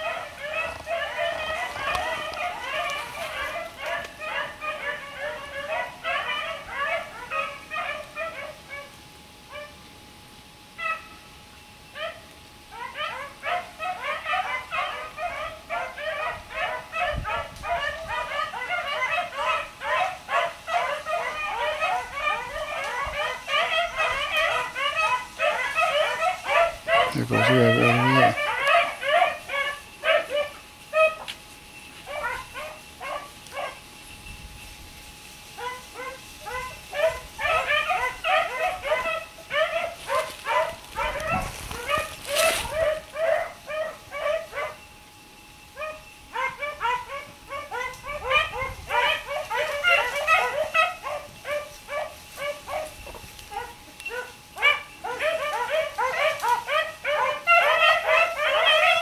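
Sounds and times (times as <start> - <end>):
hounds yipping and barking: 0.0 - 9.8, 10.8 - 11.2, 11.9 - 33.9, 35.4 - 59.0.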